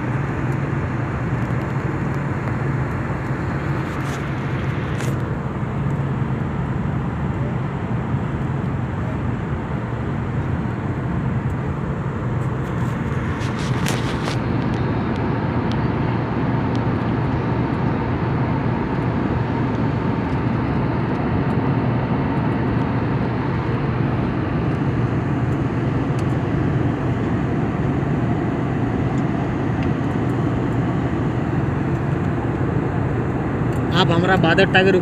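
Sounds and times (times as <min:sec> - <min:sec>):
airliner cabin drone: 0:00.0 - 0:35.0.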